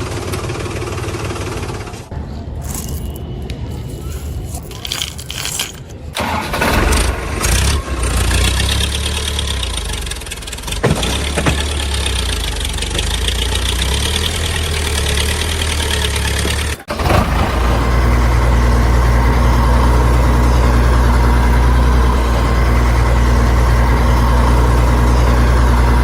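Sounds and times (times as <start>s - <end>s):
tractor engine starting and running: 0.0s - 26.0s.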